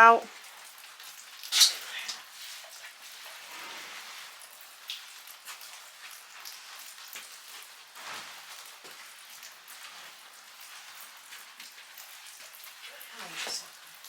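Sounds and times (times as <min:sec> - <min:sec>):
heavy rain falling: 0:00.0 - 0:14.0
raindrops ticking near microphone: 0:00.0 - 0:14.0.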